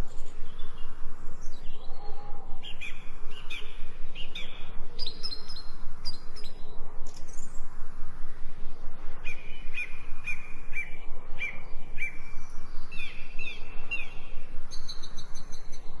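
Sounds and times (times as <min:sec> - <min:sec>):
small birds chirping: 0:00.0 - 0:07.7, 0:09.2 - 0:16.0
birds twittering: 0:00.0 - 0:07.8, 0:09.2 - 0:16.0
low background noise: 0:00.0 - 0:16.0.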